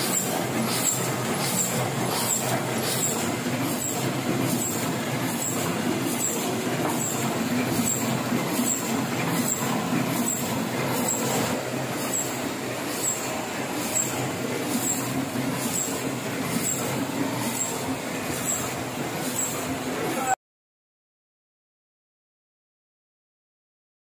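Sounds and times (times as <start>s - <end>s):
printing press clattering: 0.0s - 20.2s.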